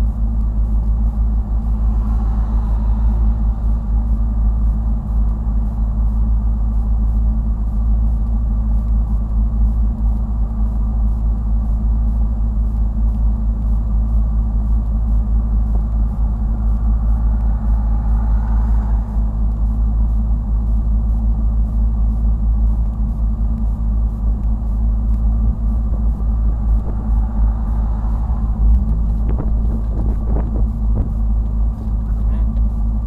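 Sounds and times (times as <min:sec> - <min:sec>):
car engines idling: 0:00.0 - 0:33.0.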